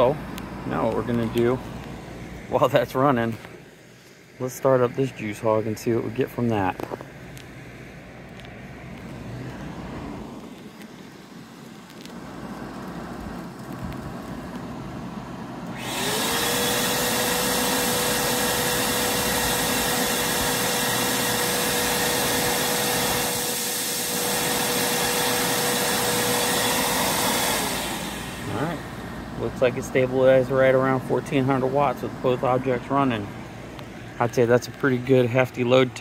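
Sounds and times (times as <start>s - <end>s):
shop vac motor whine: 0.0s - 36.0s.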